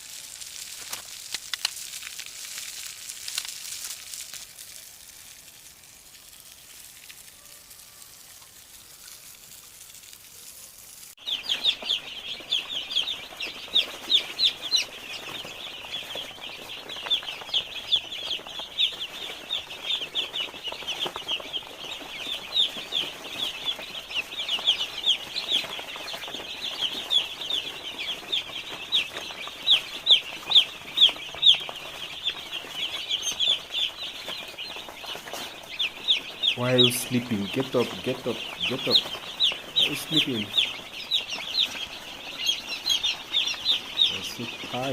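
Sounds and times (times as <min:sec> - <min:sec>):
chicks peeping: 0:00.5 - 0:44.9.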